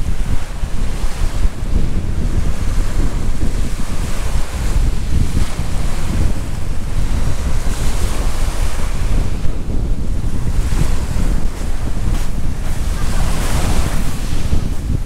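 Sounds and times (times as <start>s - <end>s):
sea waves on a beach: 0.0s - 15.0s
wind buffeting microphone: 0.0s - 15.0s.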